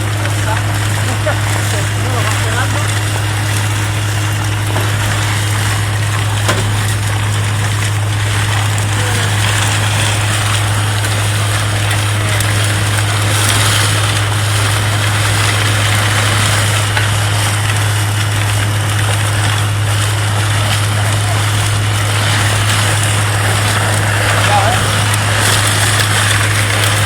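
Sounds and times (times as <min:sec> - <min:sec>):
engine and vacuum pump drone: 0:00.0 - 0:27.0.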